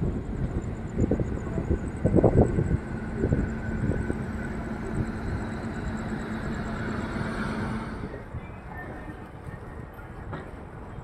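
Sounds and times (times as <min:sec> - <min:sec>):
train coach rumbling on rails: 0:00.0 - 0:11.0.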